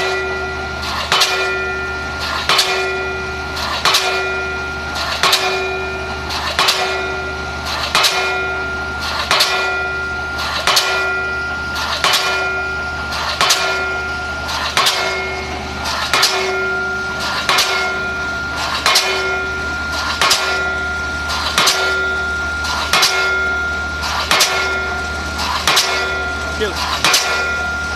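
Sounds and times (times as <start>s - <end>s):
pile hammer blows with ring: 0.0s - 27.9s.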